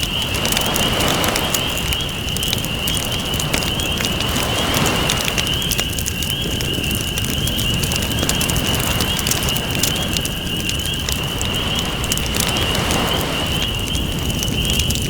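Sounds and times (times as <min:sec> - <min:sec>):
ocean waves: 0:00.0 - 0:06.1, 0:08.2 - 0:15.0
campfire crackling and popping: 0:00.0 - 0:15.0.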